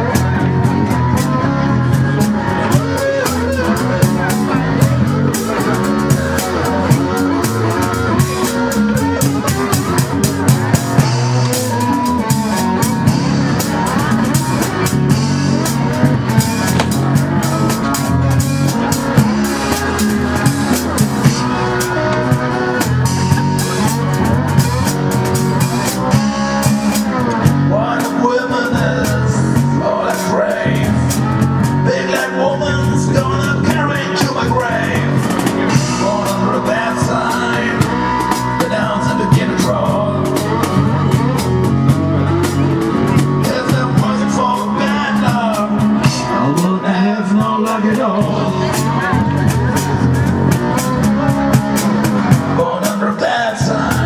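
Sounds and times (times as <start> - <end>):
acoustic guitars: 0.0 - 54.0
cajon beat: 0.0 - 54.0.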